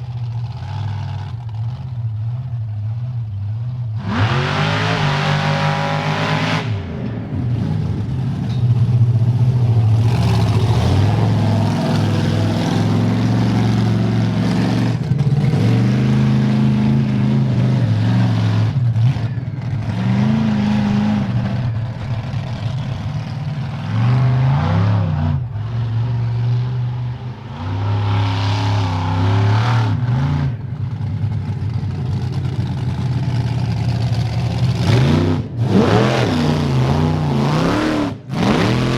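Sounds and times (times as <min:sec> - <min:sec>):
monster truck engine revving: 0:00.0 - 0:38.9.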